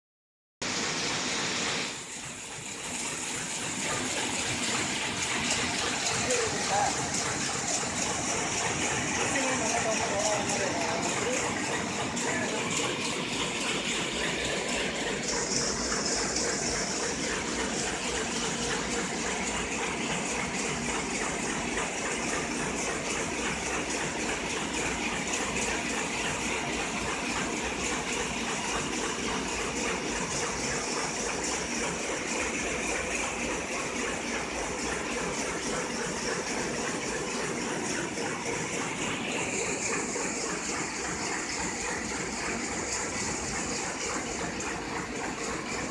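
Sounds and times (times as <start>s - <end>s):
printing press running: 0.6s - 45.9s.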